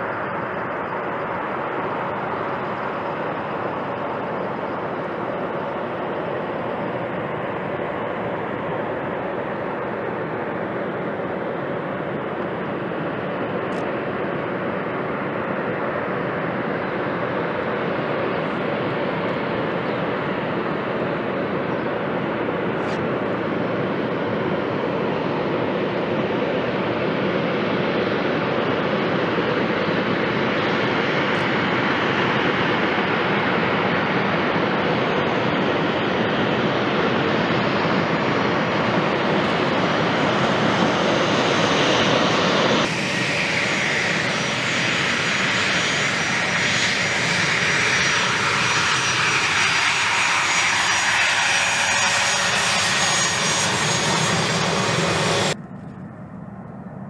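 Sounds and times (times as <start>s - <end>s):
jet engines rushing: 0.0s - 57.0s
turbine whine: 0.0s - 57.0s.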